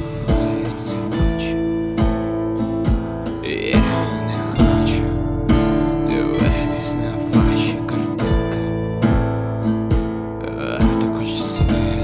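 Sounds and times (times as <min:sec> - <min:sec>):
strummed guitar: 0:00.0 - 0:12.0
steady drum beat: 0:00.3 - 0:00.6, 0:01.2 - 0:04.9, 0:05.5 - 0:10.2, 0:10.8 - 0:12.0.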